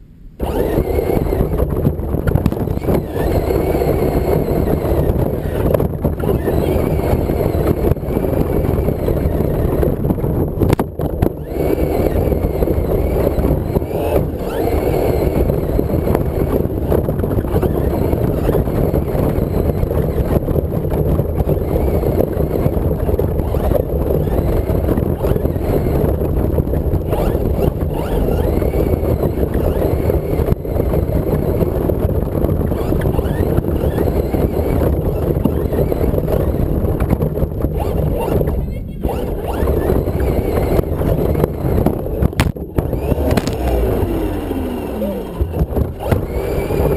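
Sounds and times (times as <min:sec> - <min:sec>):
faint motor whine: 0:00.0 - 0:46.9
toy truck motor rumble: 0:00.4 - 0:46.9.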